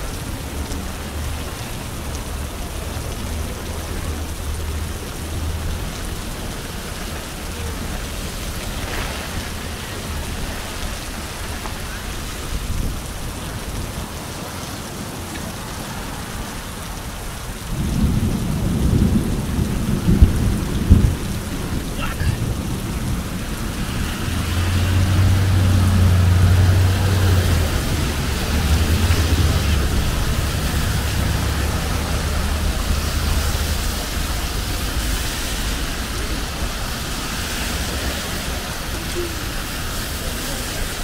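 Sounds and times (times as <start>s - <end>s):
rain: 0.0s - 41.0s
wind: 0.0s - 41.0s.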